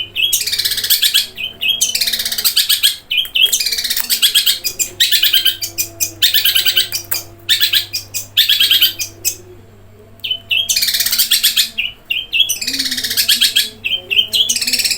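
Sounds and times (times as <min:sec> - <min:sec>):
shrike singing rolling chirps: 0:00.0 - 0:14.9.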